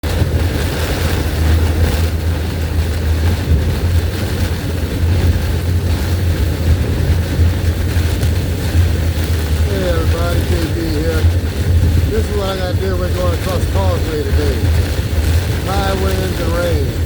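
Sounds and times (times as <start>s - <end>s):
rain and wind hiss: 0.0s - 17.0s
road rumble inside car: 0.0s - 17.0s.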